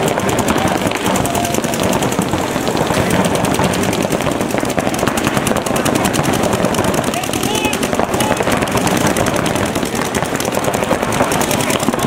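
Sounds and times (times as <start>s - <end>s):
paintball markers firing rapidly: 0.0s - 12.0s.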